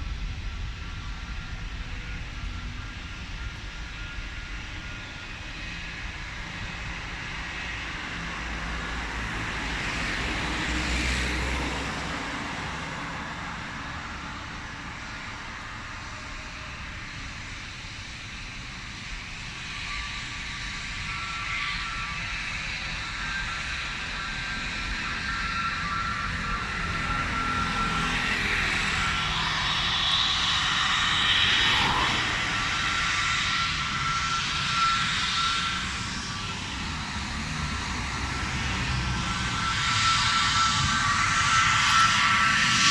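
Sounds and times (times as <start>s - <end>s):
faint engine whine: 0.0s - 42.9s
jet engine roar: 0.0s - 42.9s.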